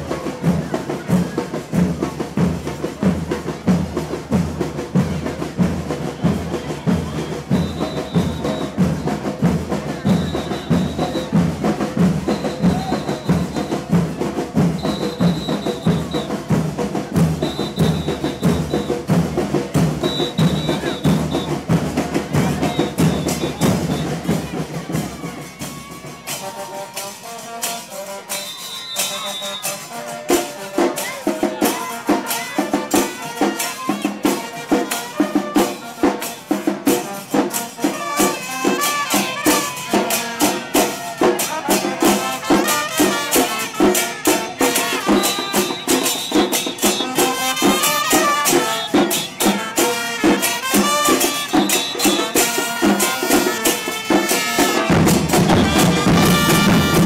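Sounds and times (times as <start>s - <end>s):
carnival band music: 0.0s - 57.0s.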